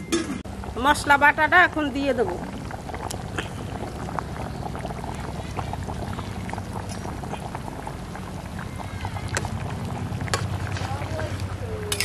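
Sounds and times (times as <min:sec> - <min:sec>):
curry bubbling with pops: 0:00.4 - 0:12.0.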